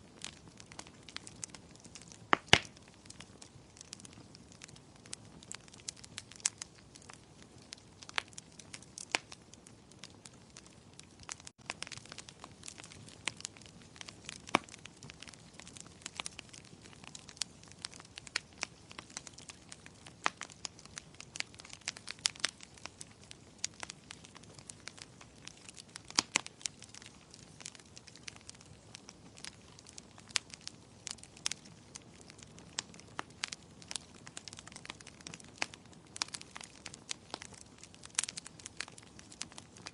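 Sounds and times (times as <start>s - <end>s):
faint hiss of flames: 0.0s - 39.9s
wood fire crackling and popping: 0.0s - 39.9s.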